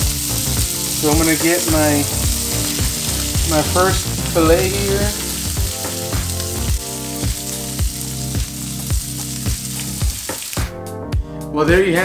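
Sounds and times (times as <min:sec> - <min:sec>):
fish sizzling in a frying pan: 0:00.0 - 0:10.8
background music with steady beat: 0:00.0 - 0:12.0.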